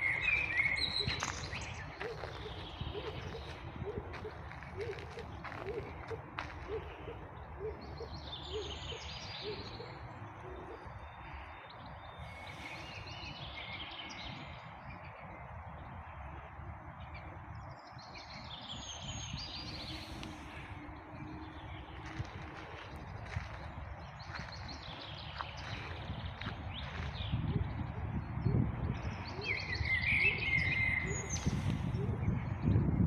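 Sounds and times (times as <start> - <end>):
outdoor background hum: 0.0 - 33.0
songbird singing: 0.0 - 33.0.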